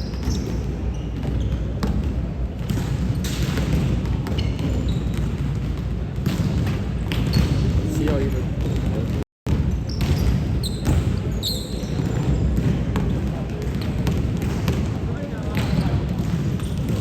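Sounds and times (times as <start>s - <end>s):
basketball bouncing on court: 0.0s - 17.0s.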